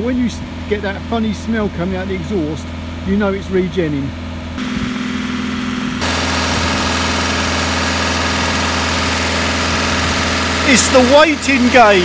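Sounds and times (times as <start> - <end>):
diesel engine running at raised revs: 0.0 - 12.0.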